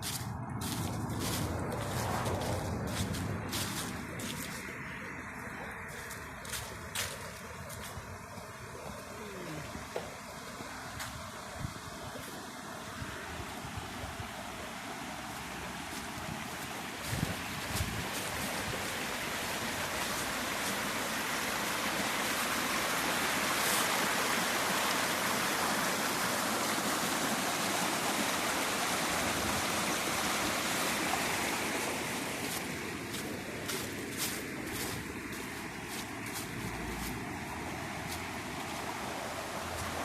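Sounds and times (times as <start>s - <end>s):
rushing river rapids: 0.0s - 40.0s.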